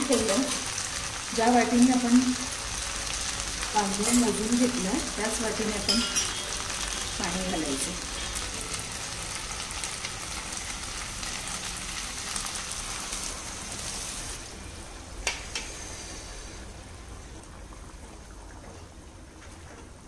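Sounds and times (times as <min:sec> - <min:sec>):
food sizzling in a hot pan: 0:00.0 - 0:16.9.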